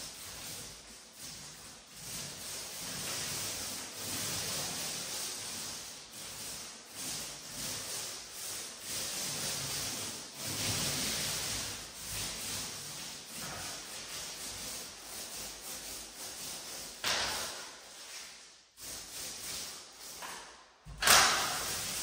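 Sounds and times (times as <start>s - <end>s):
paint roller rolling over wall: 0.0s - 22.0s.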